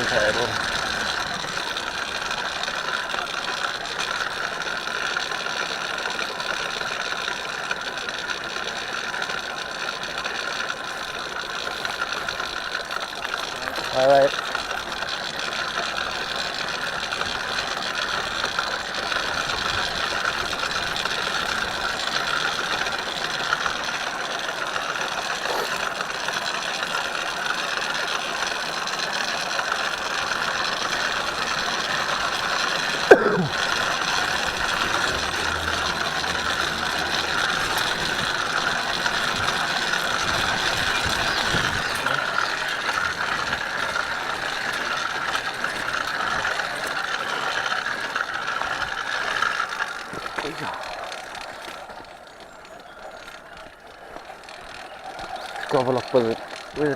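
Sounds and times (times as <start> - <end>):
gear and chain rattle: 0.0 - 56.9
motorised bicycle drive whirring: 0.0 - 56.9.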